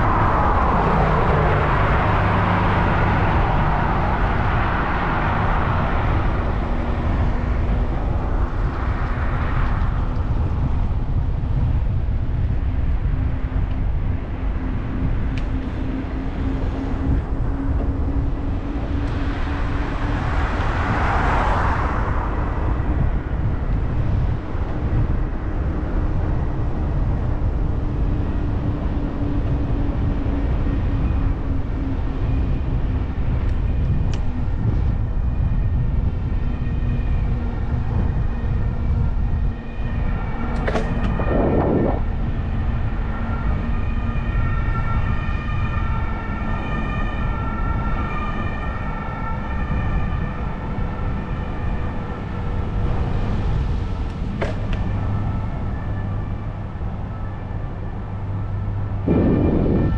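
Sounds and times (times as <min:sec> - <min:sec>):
vehicles passing: 0:00.0 - 0:59.9
wind rumble on microphone: 0:00.0 - 0:59.9.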